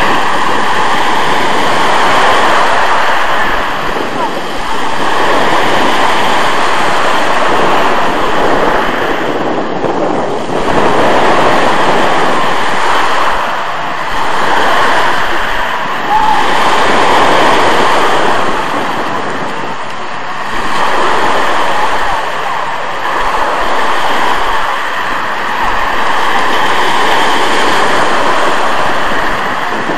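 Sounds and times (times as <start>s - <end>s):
waves washing up pebble beach: 0.0s - 29.9s
wind buffeting microphone: 0.0s - 29.9s.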